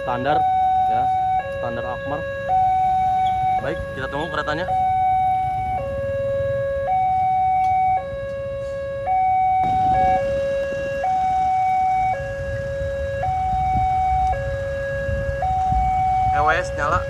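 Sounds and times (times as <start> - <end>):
motorcycle traffic rumble: 0.0 - 17.0
two-tone crossing alarm: 0.0 - 17.0.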